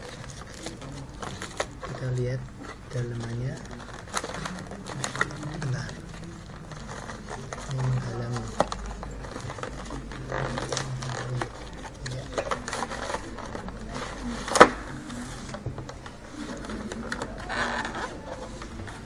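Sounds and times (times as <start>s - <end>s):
plastic tray scraping and rustling: 0.0s - 19.0s.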